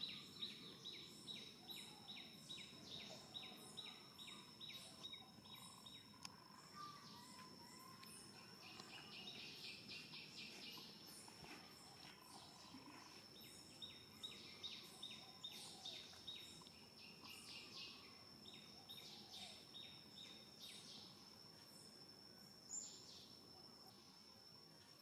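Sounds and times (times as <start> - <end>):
insect drone: 0.0 - 25.0.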